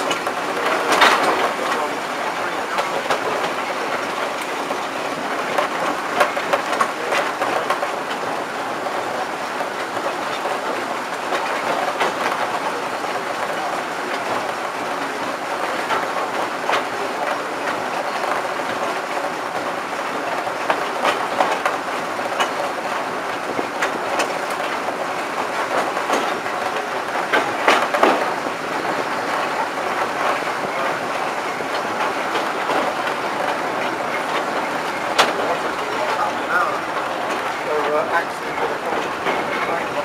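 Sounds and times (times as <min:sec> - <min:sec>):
train rumble: 0:00.0 - 0:40.0
wheel clicks over rail joints: 0:00.0 - 0:40.0.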